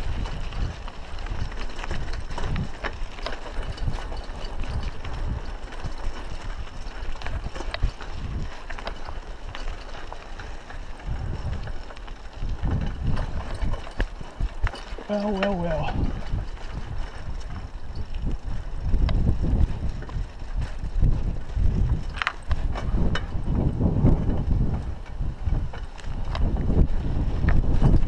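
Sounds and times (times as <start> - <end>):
bike clicks and rattles: 0.0 - 28.0
tyres crunching over dirt: 0.0 - 28.0
wind rumble on microphone: 0.0 - 28.0.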